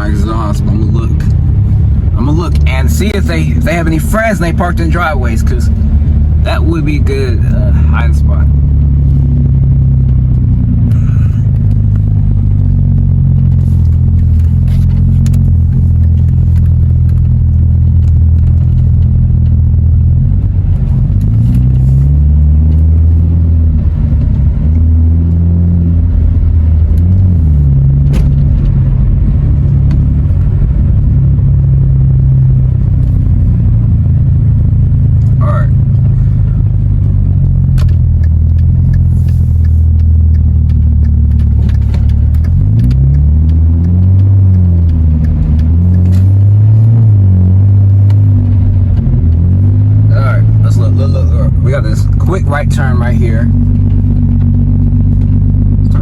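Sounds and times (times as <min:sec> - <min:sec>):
sports car engine droning: 0:00.0 - 0:56.0.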